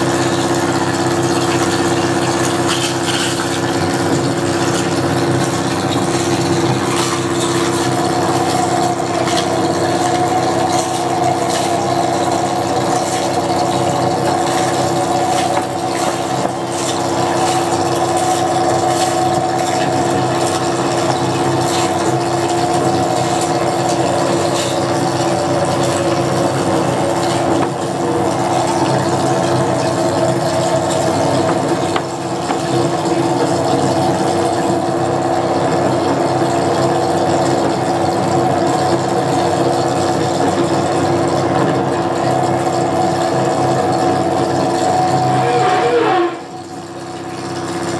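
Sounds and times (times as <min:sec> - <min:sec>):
low drone tones: 0:03.6 - 0:39.4, 0:40.4 - 0:47.6.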